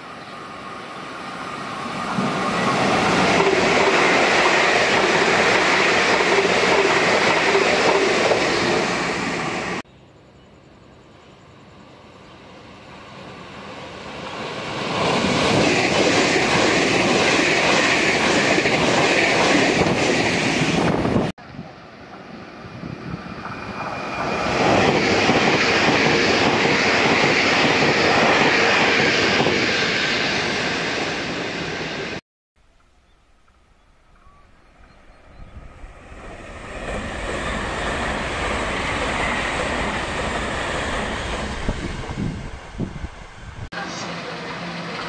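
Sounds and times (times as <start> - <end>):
train passing at speed: 0.0 - 9.9, 11.1 - 32.2, 34.0 - 45.0.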